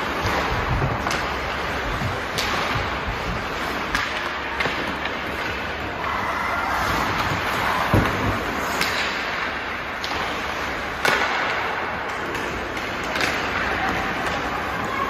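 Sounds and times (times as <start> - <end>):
hockey sticks and puck clacking: 0.0 - 15.0
skates scraping on ice: 0.0 - 15.0.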